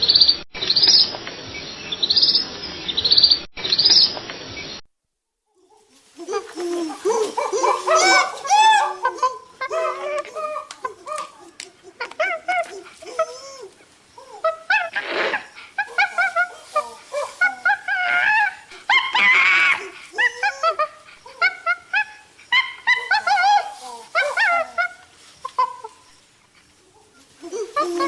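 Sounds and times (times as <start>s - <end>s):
high-pitched animal calls: 5.5s - 28.0s.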